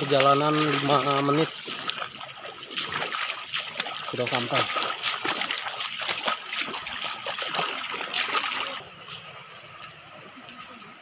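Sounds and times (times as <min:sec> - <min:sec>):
footsteps splashing through stream: 0:00.0 - 0:11.0
stream trickling: 0:00.0 - 0:11.0.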